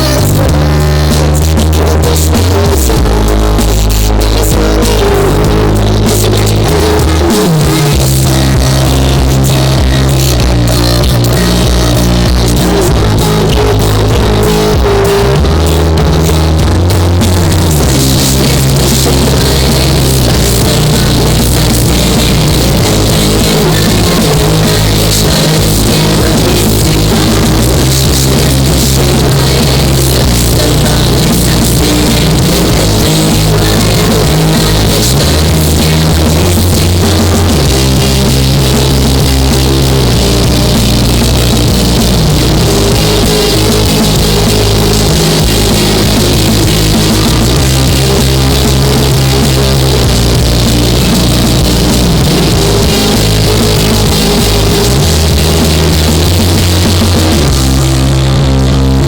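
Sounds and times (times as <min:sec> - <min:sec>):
loud rock music: 0:00.0 - 0:59.0.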